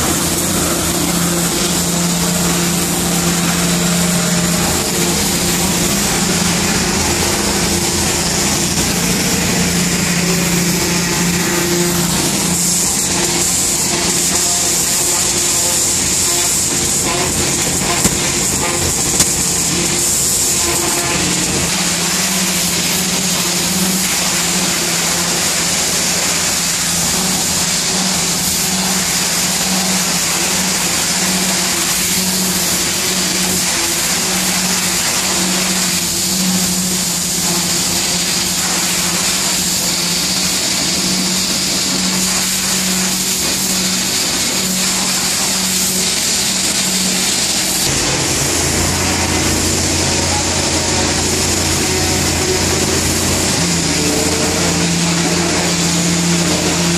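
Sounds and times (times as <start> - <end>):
pressure washer jet hissing: 0.0 - 56.9
washer engine and pump drone: 0.0 - 56.9.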